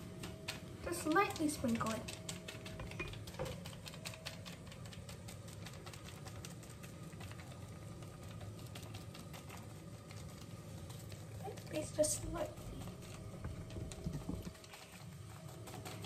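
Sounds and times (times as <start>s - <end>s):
fingers tapping foil sachet: 0.0s - 16.0s.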